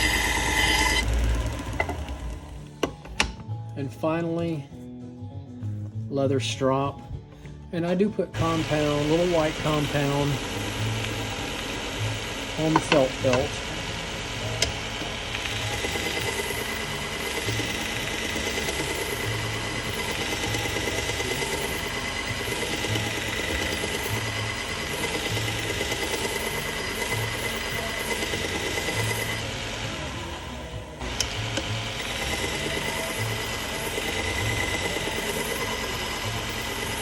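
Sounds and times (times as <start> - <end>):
high steady whine: 0.0 - 3.0, 8.4 - 37.0
belt sharpener whirring: 0.0 - 3.4, 8.4 - 37.0.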